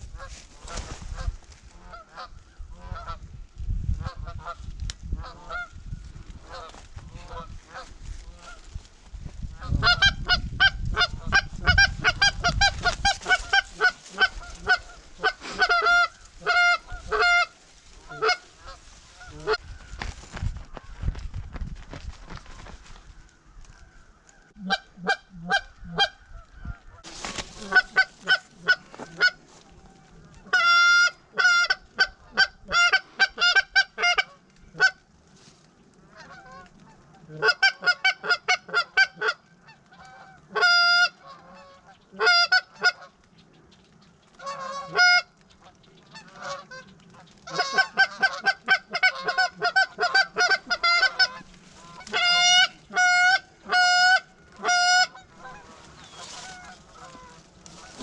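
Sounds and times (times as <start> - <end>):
geese honking: 0.1 - 3.2, 5.2 - 5.7, 6.4 - 8.9, 9.6 - 21.0, 22.2 - 58.0.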